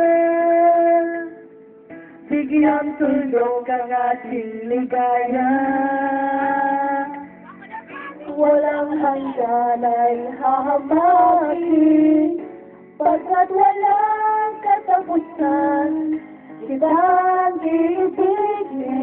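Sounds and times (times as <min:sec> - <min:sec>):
high voices singing: 0:02.3 - 0:19.0.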